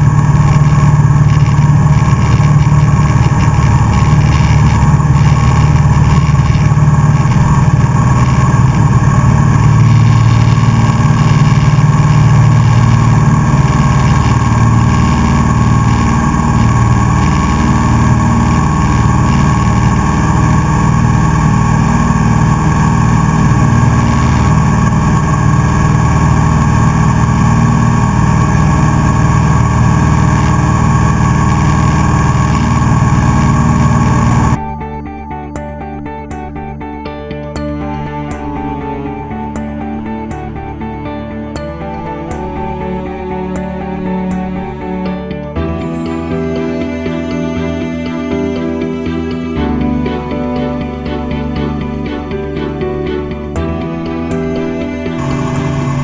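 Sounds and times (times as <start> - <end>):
small plane engine and propeller: 0.0 - 56.0.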